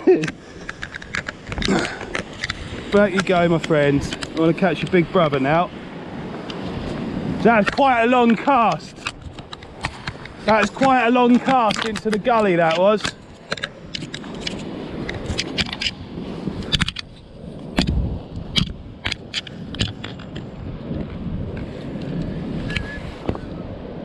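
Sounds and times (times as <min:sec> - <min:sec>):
sea: 0:00.0 - 0:24.0
wind buffeting microphone: 0:00.0 - 0:24.0
sharp clicks and crackles: 0:00.2 - 0:05.0, 0:07.6 - 0:16.0, 0:16.6 - 0:22.9.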